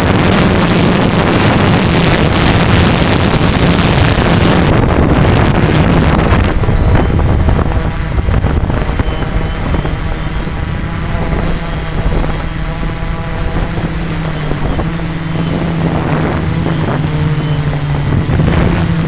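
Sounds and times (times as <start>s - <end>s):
drone motors humming: 0.0s - 19.0s
wind on microphone: 0.0s - 19.0s.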